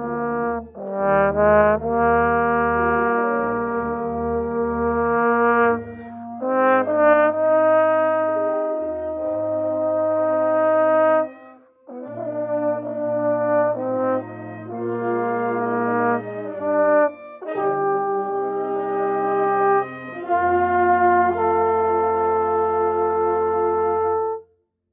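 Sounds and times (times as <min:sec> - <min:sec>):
trombone sustained notes: 0:00.0 - 0:24.4
wind instruments sounding chords: 0:00.0 - 0:24.4.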